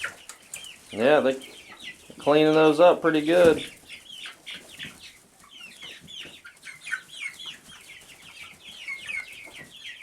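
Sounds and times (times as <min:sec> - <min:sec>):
chickens calling: 0:00.0 - 0:10.0.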